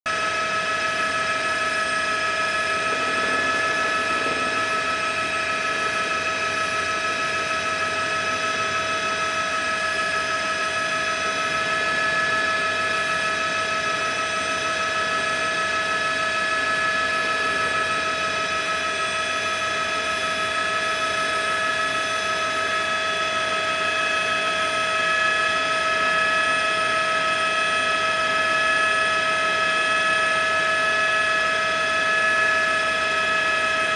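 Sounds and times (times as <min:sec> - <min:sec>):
helicopter turbine whine: 0:00.1 - 0:33.9.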